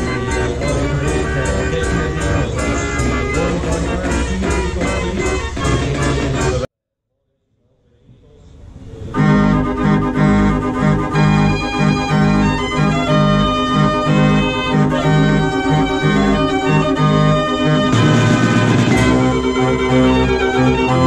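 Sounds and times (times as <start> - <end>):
fair organ playing a tune: 0.0 - 6.7, 9.1 - 21.0
repeating bass beat: 0.0 - 6.7, 9.2 - 21.0.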